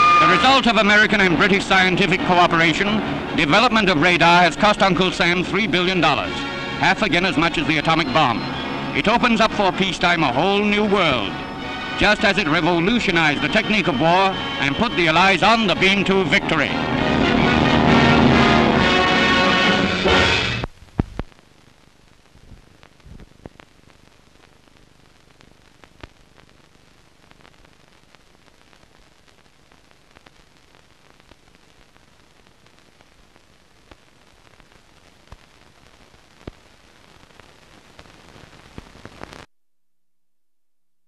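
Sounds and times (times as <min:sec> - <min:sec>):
crackles and pops: 0:00.0 - 0:16.7, 0:20.5 - 0:39.5
film soundtrack hiss: 0:00.0 - 0:39.5.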